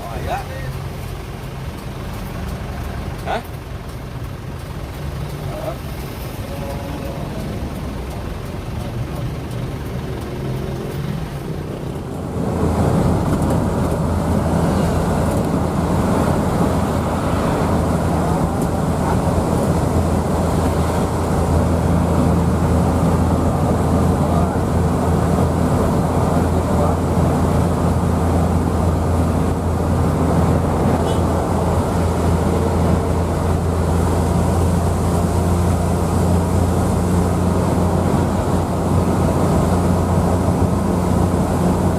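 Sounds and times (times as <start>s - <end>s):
bus engine drone: 0.0s - 41.9s
road noise: 0.0s - 41.9s.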